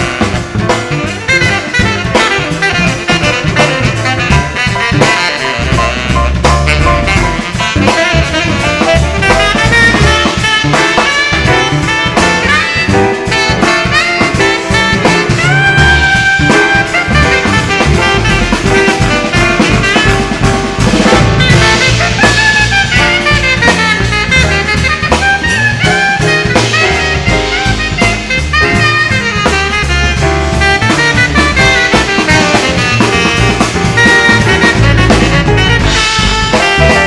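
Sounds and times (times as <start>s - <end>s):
busy drum kit: 0.0s - 37.0s
live band with horns: 0.0s - 37.0s.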